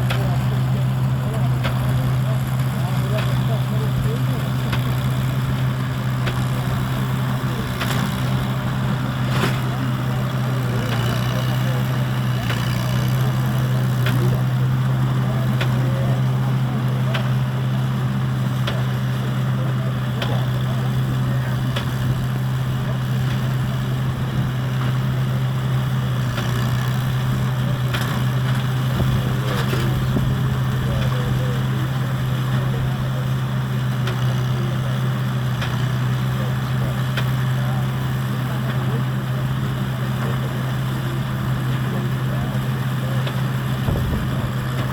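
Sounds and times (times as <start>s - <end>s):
hay baler droning: 0.0s - 44.9s.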